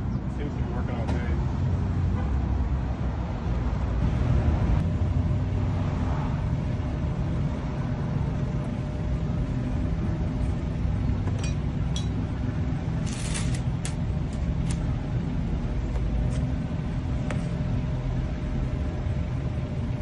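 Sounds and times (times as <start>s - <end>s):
engine idling hum: 0.0s - 20.0s.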